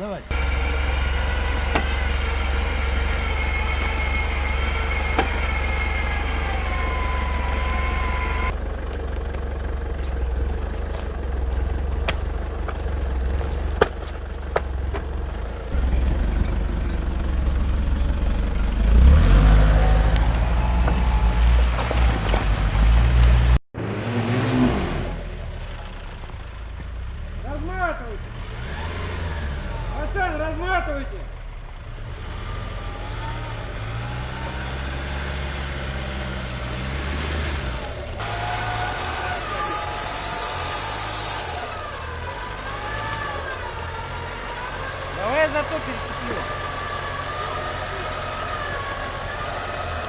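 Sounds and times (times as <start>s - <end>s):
off-road vehicle engine revving: 0.0s - 50.0s.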